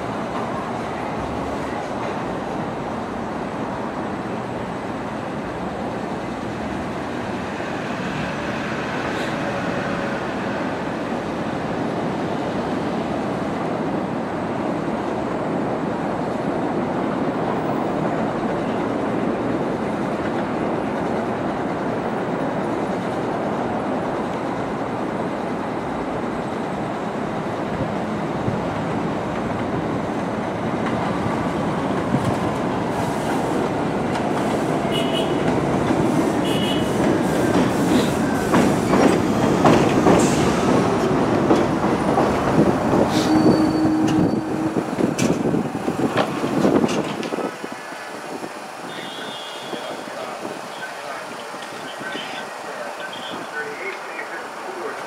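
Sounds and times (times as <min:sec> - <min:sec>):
subway train wheels on rails: 0:00.0 - 0:55.0.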